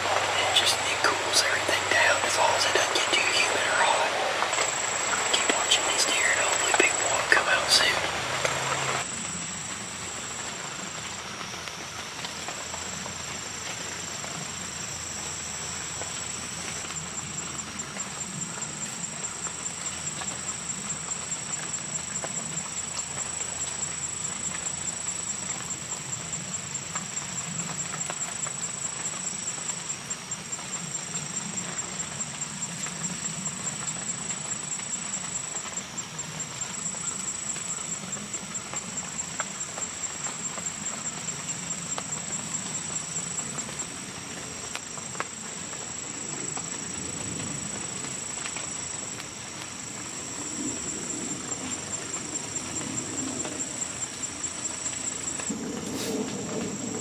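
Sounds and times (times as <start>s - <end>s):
insects trilling: 0.0s - 57.0s
steady rain falling: 0.0s - 57.0s.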